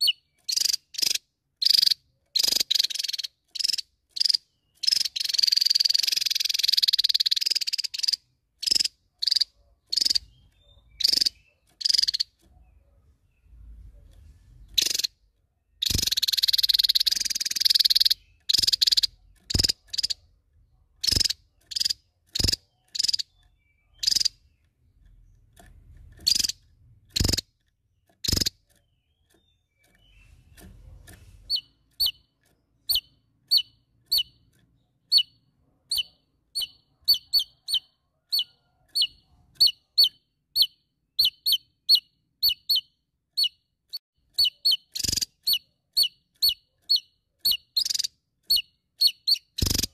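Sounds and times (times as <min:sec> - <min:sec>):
bird calling with harsh rattle: 0:00.0 - 0:49.9.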